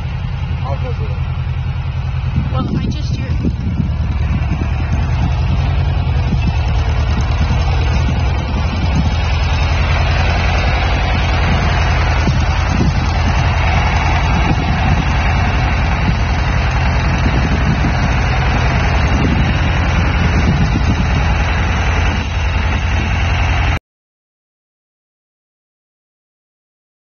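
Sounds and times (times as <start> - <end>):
tractor engine running: 0.0 - 23.8.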